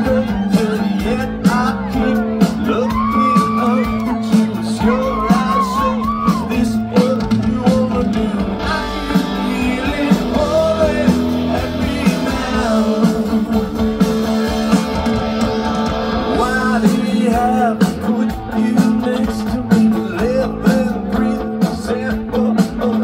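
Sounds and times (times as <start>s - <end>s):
person singing: 0.0s - 15.0s, 16.2s - 23.0s
rock band playing live: 0.0s - 23.0s.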